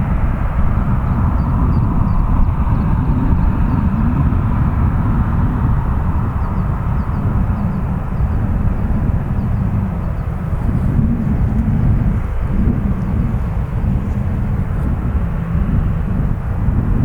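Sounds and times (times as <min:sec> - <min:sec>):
faint jet whine: 0:00.0 - 0:17.0
jet engine rumble: 0:00.0 - 0:17.0.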